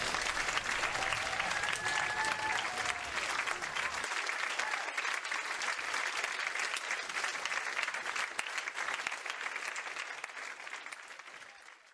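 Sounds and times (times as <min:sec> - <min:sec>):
crowd applause: 0:00.0 - 0:11.9.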